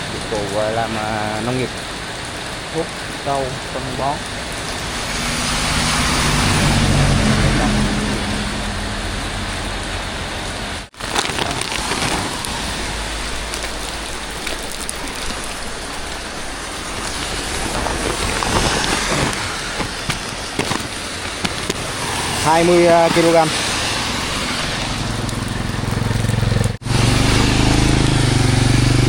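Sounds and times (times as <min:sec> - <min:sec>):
steady rain: 0:00.0 - 0:29.0
vehicle engine passing: 0:04.5 - 0:10.9, 0:11.6 - 0:29.0.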